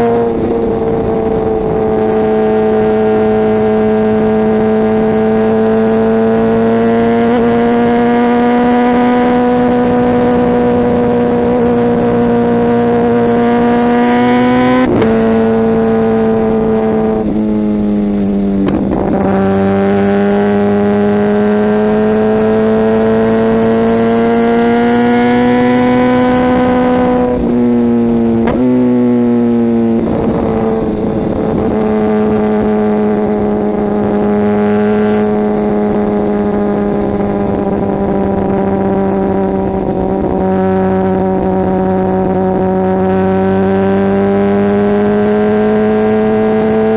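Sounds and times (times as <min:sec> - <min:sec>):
motorcycle engine while riding: 0:00.0 - 0:46.9.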